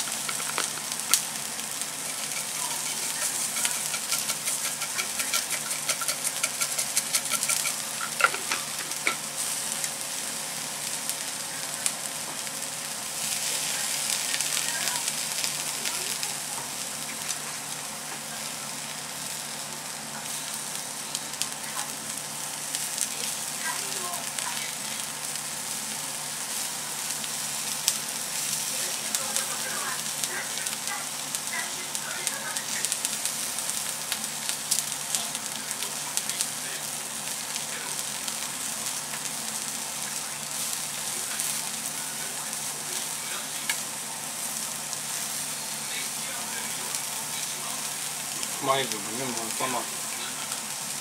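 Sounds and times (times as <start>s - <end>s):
shrimp heads sizzling and popping: 0.0s - 51.0s.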